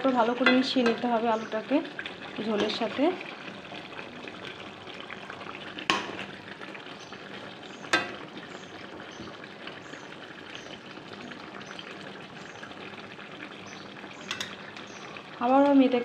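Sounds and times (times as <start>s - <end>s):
curry sizzling in a metal pan: 0.0s - 16.0s.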